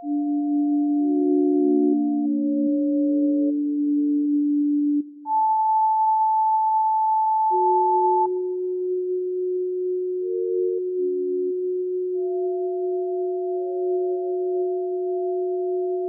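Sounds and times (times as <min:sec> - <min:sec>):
held electronic sine tones: 0:00.0 - 0:16.0.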